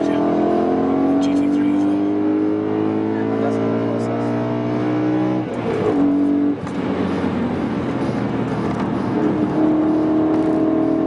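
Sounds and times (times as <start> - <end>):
car engine at speed: 0.0 - 11.0
road noise: 0.0 - 11.0.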